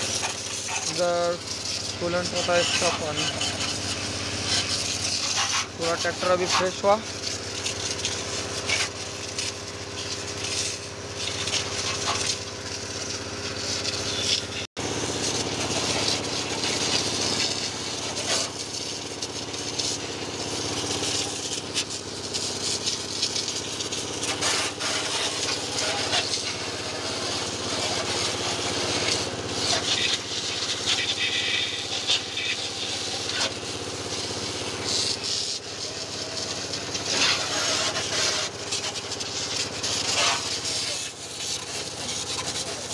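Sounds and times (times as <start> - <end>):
pressure washer hum: 0.0 - 42.9
pressure washer water jet hissing: 0.0 - 42.9.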